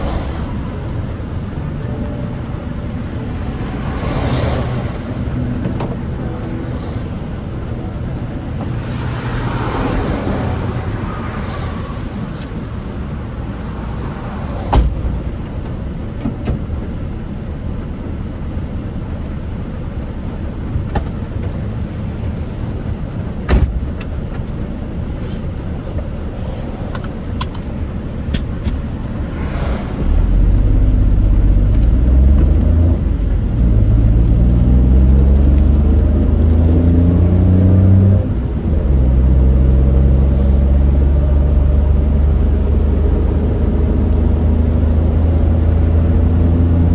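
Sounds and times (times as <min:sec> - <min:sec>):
car engine accelerating: 0:00.0 - 0:46.9
road noise on wet road: 0:00.0 - 0:46.9.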